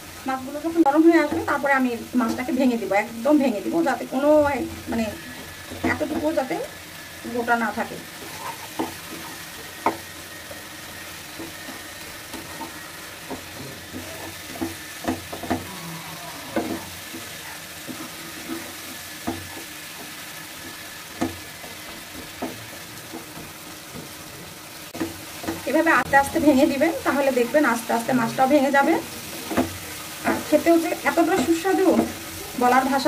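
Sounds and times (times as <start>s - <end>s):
low sizzle of frying: 0.0s - 33.0s
wooden spatula scraping frying pan: 1.1s - 15.7s, 16.4s - 33.0s.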